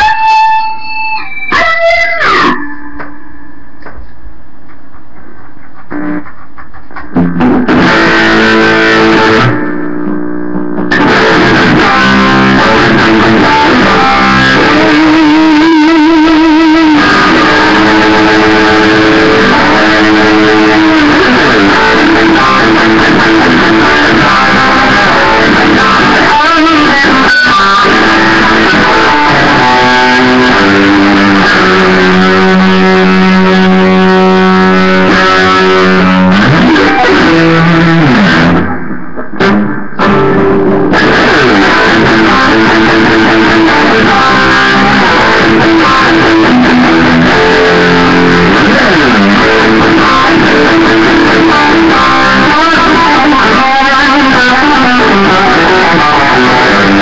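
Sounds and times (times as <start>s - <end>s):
electric guitar held notes: 0.0s - 4.0s, 5.8s - 57.0s.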